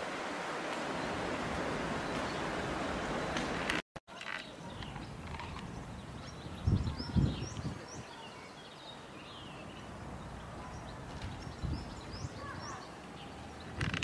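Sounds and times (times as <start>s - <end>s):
outdoor background noise: 0.0s - 14.0s
songbirds chirping: 0.2s - 14.0s.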